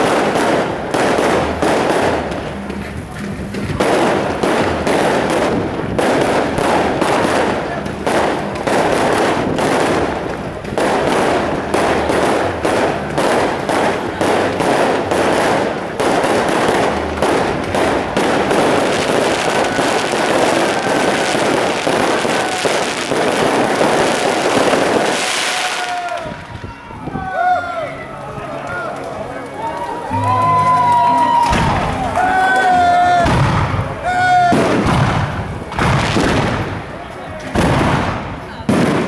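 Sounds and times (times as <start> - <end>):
burning wood crackling: 0.0 - 26.6, 27.4 - 38.2.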